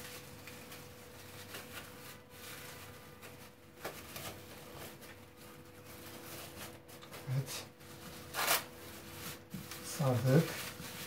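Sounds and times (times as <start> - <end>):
cling film crinkling: 0.0 - 11.0.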